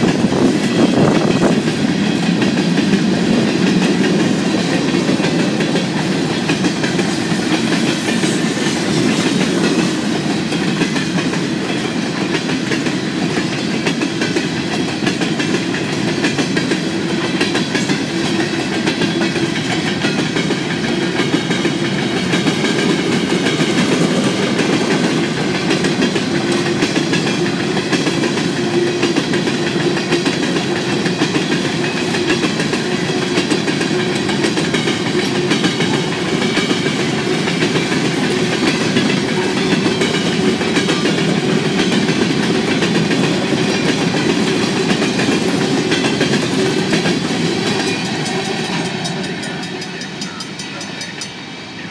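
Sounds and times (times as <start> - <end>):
freight train wheels on rails: 0.0 - 51.9.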